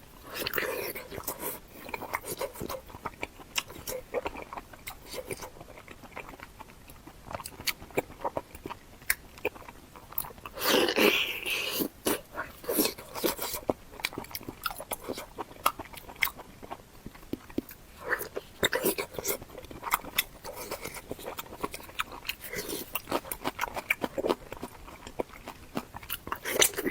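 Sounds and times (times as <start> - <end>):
person biting and chewing: 0.2 - 26.9.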